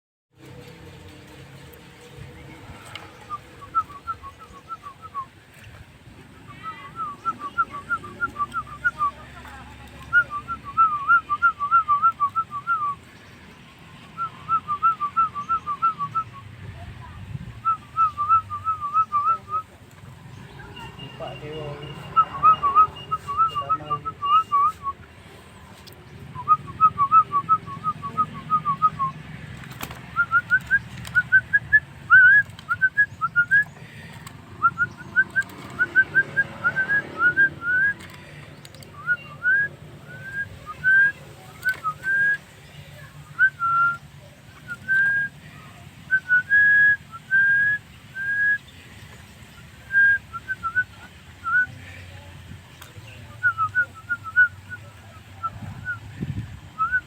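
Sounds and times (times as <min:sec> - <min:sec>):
bird singing whistled notes: 0:02.0 - 0:05.4, 0:06.4 - 0:09.3, 0:10.0 - 0:13.4, 0:14.0 - 0:16.5, 0:17.6 - 0:25.0, 0:26.3 - 0:29.2, 0:30.1 - 0:33.8, 0:34.6 - 0:38.0, 0:38.7 - 0:48.8, 0:49.5 - 0:51.8, 0:53.0 - 0:56.2, 0:56.8 - 0:57.0.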